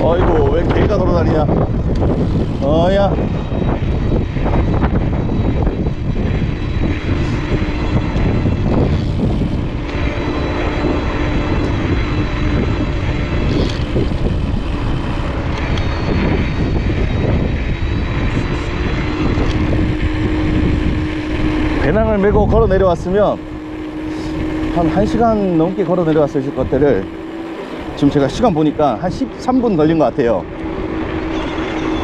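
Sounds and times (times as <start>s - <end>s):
bike tyre noise: 0.0s - 32.0s
faint steady hum: 0.0s - 32.0s
wind rumbling on microphone: 0.0s - 32.0s.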